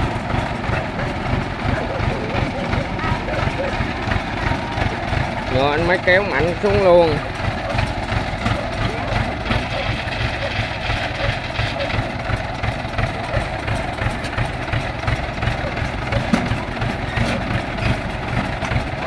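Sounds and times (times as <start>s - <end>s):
harvester engine idling: 0.0s - 19.0s.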